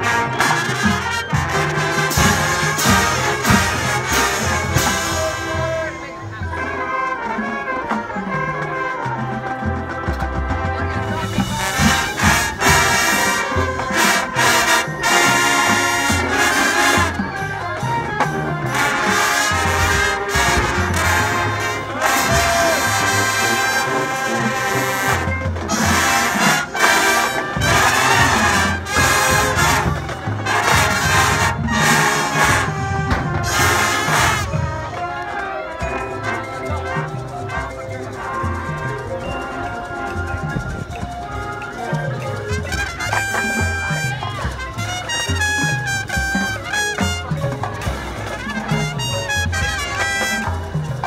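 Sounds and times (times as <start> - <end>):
marching band playing brass music: 0.0 - 51.0.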